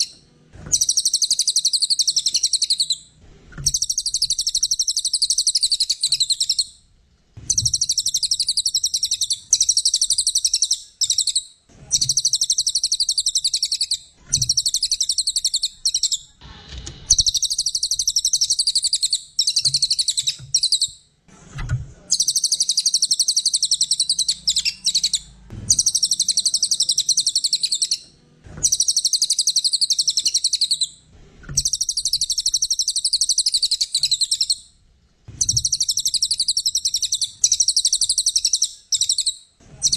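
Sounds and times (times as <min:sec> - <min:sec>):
songbird high-pitched trilling: 0:00.7 - 0:06.7, 0:07.5 - 0:16.3, 0:17.1 - 0:21.0, 0:22.1 - 0:28.0, 0:28.6 - 0:31.0, 0:31.6 - 0:34.6, 0:35.4 - 0:39.9.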